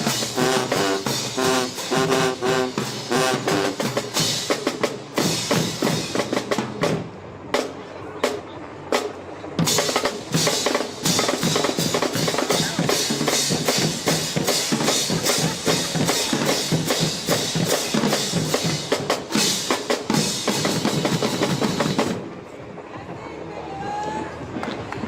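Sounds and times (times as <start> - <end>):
snare and bass drums cadence: 0.0 - 22.4.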